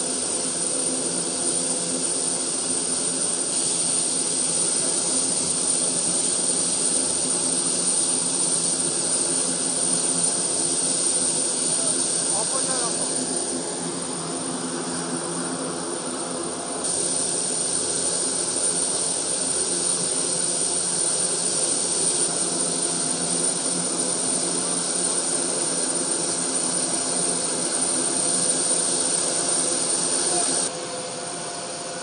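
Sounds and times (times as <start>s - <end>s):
rushing hiss: 0.0s - 16.1s, 16.8s - 32.0s
turbine engines whining: 0.0s - 32.0s.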